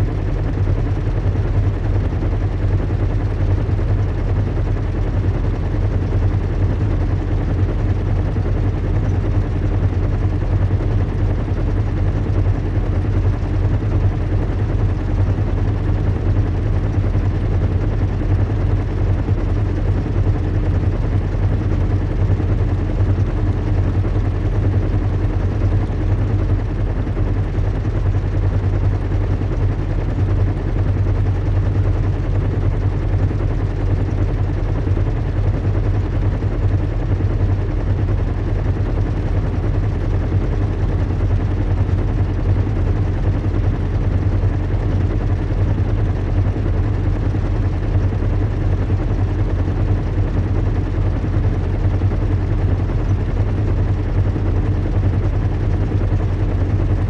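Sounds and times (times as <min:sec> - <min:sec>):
low rumble and hum: 0:00.0 - 0:57.0.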